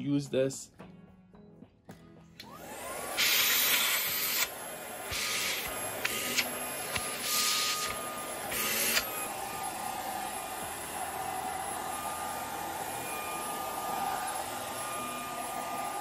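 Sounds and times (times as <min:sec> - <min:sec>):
vacuum cleaner motor whine and suction: 0:02.4 - 0:16.0.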